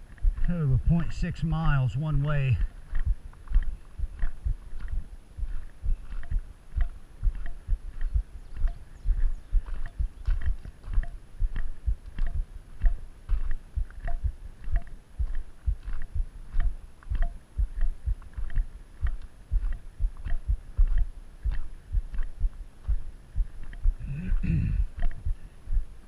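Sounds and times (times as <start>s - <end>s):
footsteps on gravel: 0.0s - 23.8s.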